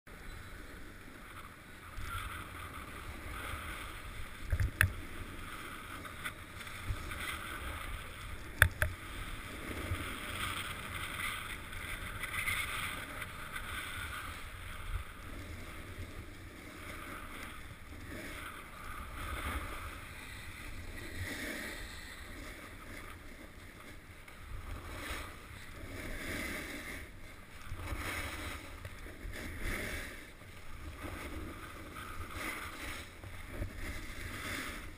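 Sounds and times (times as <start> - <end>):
wind rumbling on microphone: 0.1 - 34.9
skis scraping over snow: 5.0 - 34.9.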